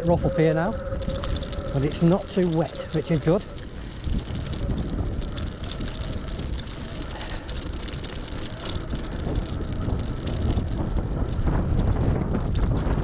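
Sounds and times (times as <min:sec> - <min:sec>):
tyre and road noise: 0:00.0 - 0:13.0
wind rumble on microphone: 0:00.0 - 0:13.0.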